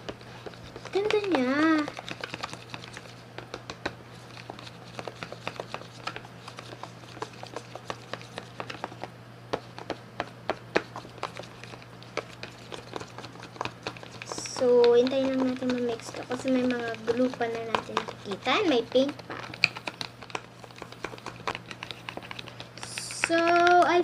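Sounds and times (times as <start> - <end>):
utensil tapping container: 0.4 - 24.0.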